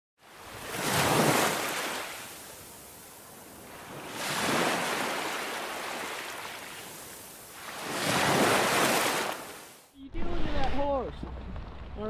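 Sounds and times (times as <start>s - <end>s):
rushing water and splashes: 0.2s - 11.7s.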